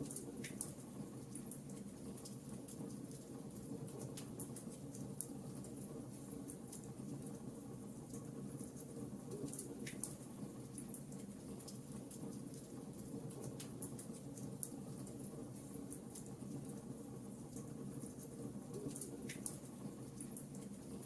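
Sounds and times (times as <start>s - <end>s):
low steady flames: 0.0s - 21.0s.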